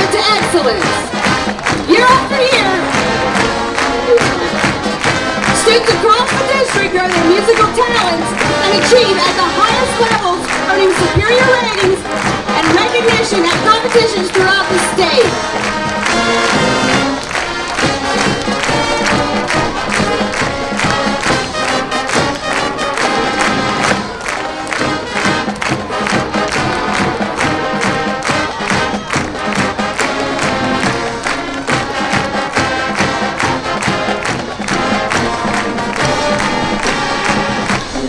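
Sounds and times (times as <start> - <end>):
brass: 0.0 - 38.0
drumline beat: 0.0 - 38.0
marching band playing: 0.0 - 38.0.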